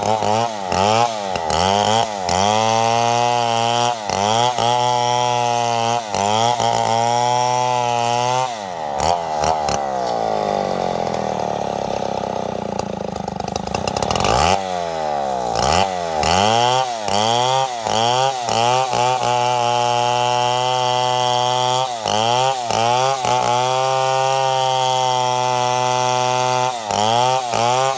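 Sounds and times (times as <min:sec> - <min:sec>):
chainsaw cutting log: 0:00.0 - 0:27.9.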